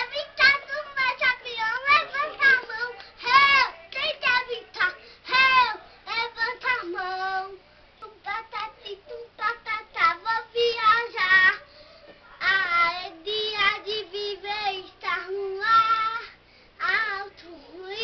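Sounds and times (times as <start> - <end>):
young child singing: 0.0 - 11.6, 12.4 - 18.0.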